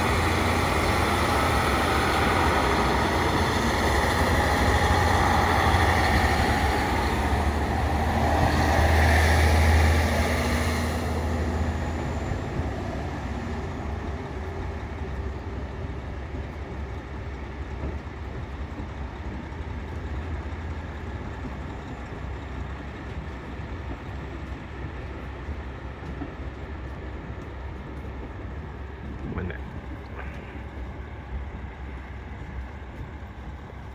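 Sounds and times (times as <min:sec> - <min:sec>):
diesel train running: 0:00.0 - 0:33.9
low engine rumble: 0:00.0 - 0:33.9.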